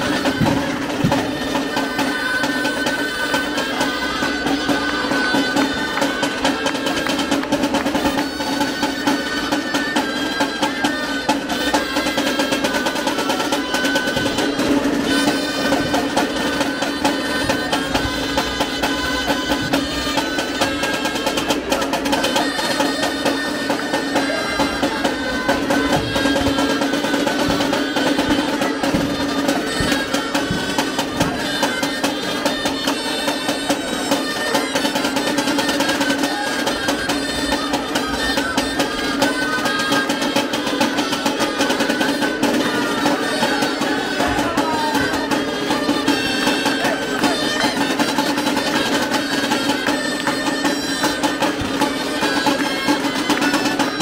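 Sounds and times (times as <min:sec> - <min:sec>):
snare drums: 0:00.0 - 0:54.0.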